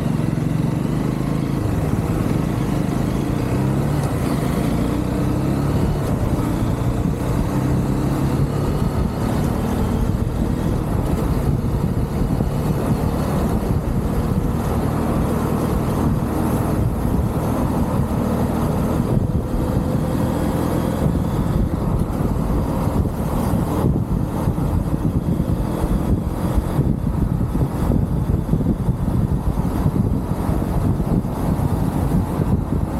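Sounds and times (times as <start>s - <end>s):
motorcycle engine running: 0.0s - 32.9s
road noise: 0.0s - 32.9s
wind: 0.0s - 32.9s.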